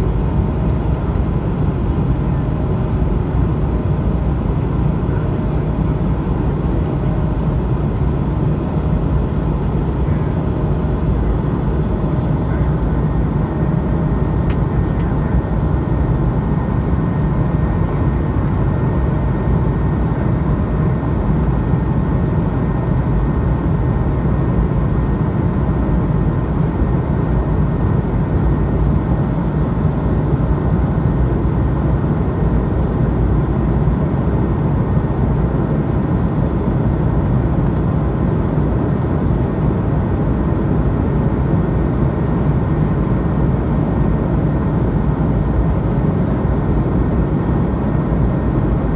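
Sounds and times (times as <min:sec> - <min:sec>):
airplane cabin engine rumble: 0:00.0 - 0:48.9.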